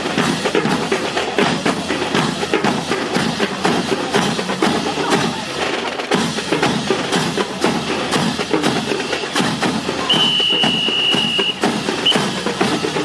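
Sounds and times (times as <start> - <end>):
percussion music with wooden clacks: 0.0 - 13.0.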